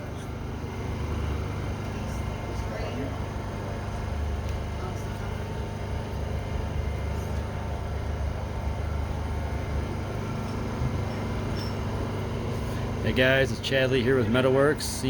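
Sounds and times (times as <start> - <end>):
low rumble of exhibition hall: 0.0 - 15.0.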